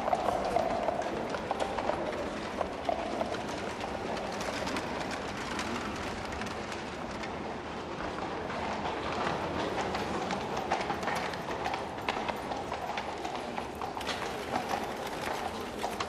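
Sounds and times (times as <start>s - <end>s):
carriage wheels rumbling: 0.0s - 16.0s
hooves clopping: 0.0s - 16.0s.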